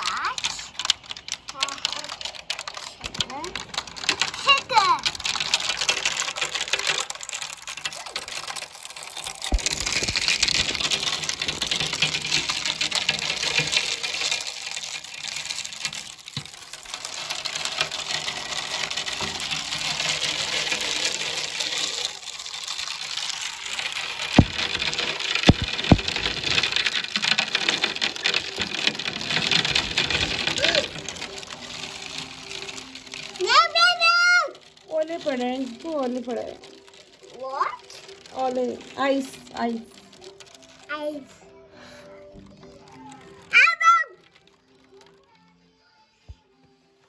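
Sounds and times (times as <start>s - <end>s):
sleet pattering on window: 0.0s - 45.4s.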